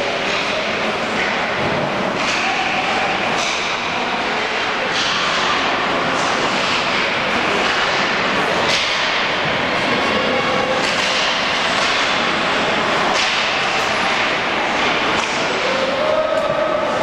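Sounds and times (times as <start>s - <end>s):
ice hockey game din: 0.0s - 17.0s.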